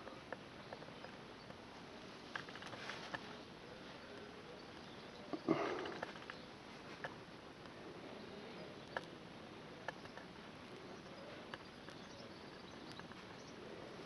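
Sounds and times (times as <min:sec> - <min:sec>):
faint outdoor background hiss: 0:00.0 - 0:14.0.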